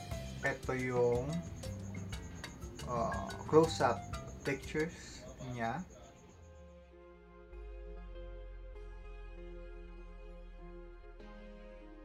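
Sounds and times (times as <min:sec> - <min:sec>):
soft slow background music: 0:00.0 - 0:12.0.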